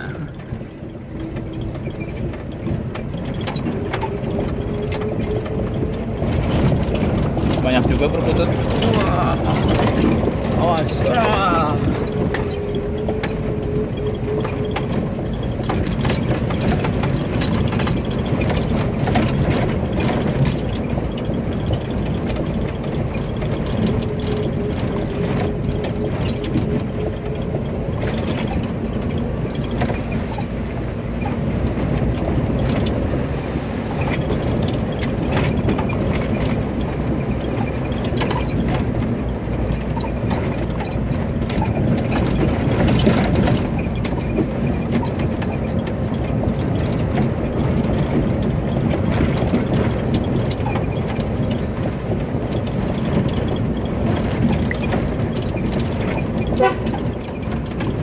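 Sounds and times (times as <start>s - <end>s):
car body rattling over bumps: 0.0s - 58.0s
car engine running: 0.0s - 58.0s.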